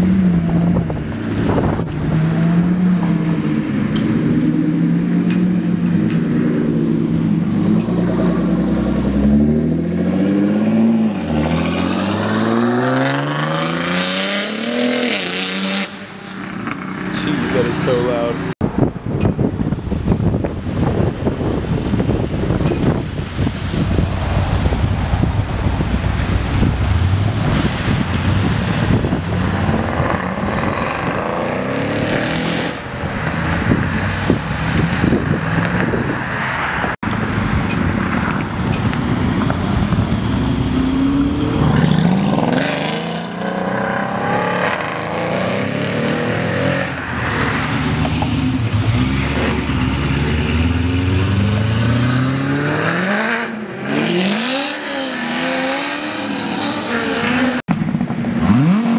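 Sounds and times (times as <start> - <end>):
car engines revving and accelerating: 0.0 - 58.9
traffic rumble: 0.0 - 58.9
wind: 0.0 - 58.9.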